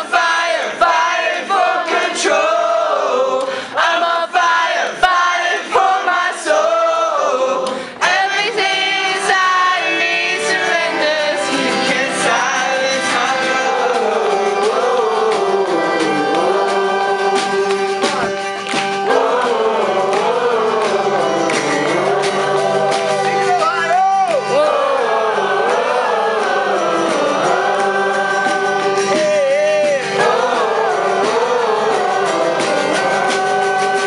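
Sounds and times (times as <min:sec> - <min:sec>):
men singing in harmony: 0:00.0 - 0:18.4, 0:19.0 - 0:23.7, 0:24.4 - 0:34.0
accordion: 0:00.0 - 0:34.0
acoustic guitar: 0:00.0 - 0:34.0.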